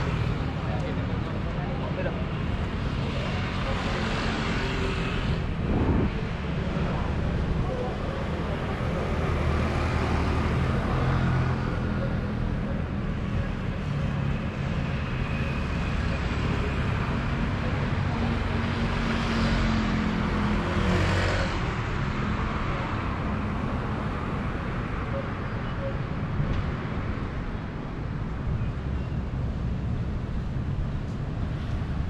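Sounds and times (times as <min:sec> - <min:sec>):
cars and motorbikes passing: 0:00.0 - 0:32.0
road noise rumble: 0:00.0 - 0:32.0.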